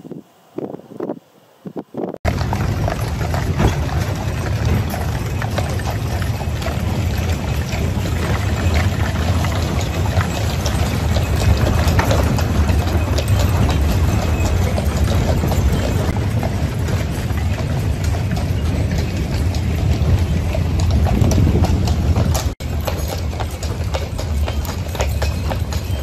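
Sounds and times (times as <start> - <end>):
hooves clicking on paving: 1.7 - 26.0
wagon wheels rumbling on bricks: 2.2 - 26.0.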